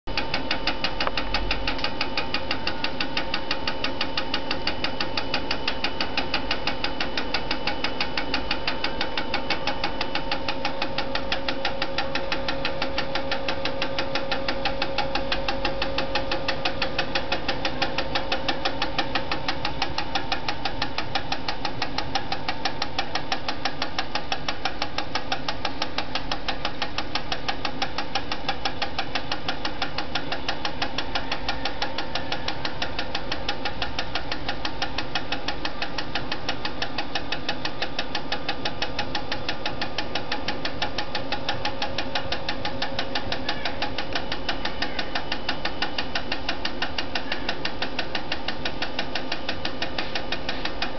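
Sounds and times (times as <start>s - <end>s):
watch ticking rapidly: 0.1s - 50.9s.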